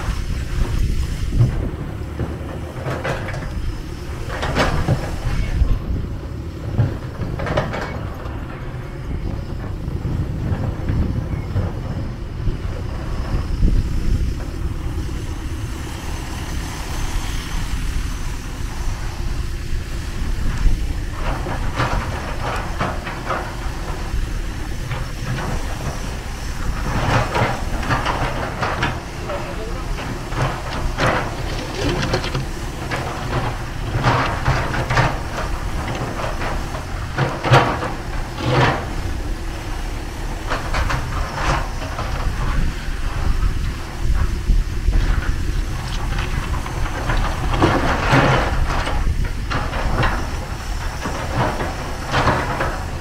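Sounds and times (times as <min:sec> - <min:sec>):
excavator boom rattling clanks: 0:00.0 - 0:53.0
excavator diesel engine rumbling: 0:00.0 - 0:53.0.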